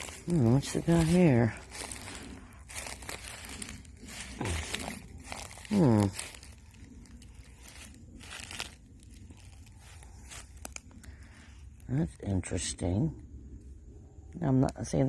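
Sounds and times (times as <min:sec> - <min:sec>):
footsteps crunching dry leaves: 0:00.0 - 0:12.2.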